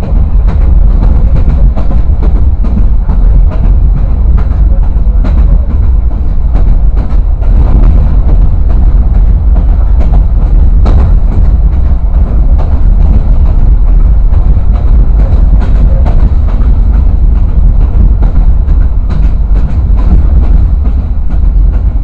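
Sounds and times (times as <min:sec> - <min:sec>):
train clicks and knocks: 0:00.0 - 0:22.0
train rumbling on track: 0:00.0 - 0:22.0.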